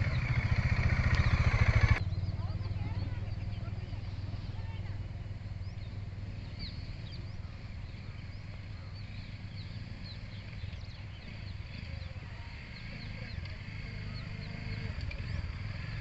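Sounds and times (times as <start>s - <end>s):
birds chirping: 0.0s - 16.0s
motorcycle engine idling: 0.0s - 16.0s.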